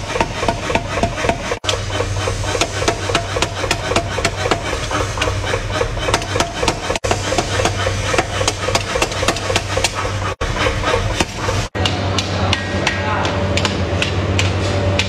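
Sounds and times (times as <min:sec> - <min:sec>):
machine hum: 0:00.0 - 0:15.0
power hammer pounding metal: 0:00.0 - 0:15.0.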